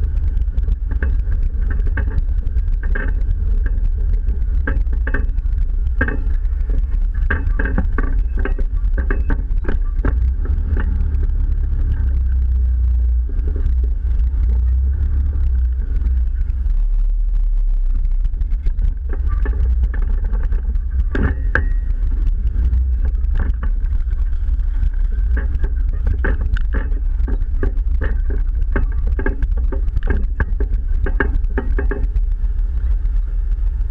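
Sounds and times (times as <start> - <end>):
vehicle body knocks and rattles: 0.0 - 16.6, 18.3 - 33.9
low engine rumble: 0.0 - 33.9.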